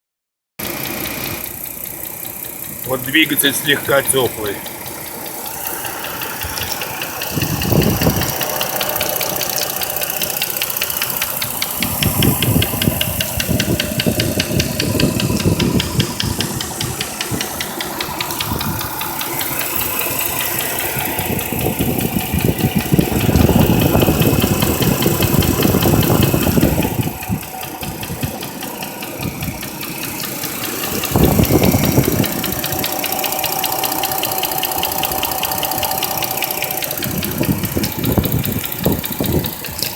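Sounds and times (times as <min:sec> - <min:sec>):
car engine knocking: 0:00.6 - 0:39.9.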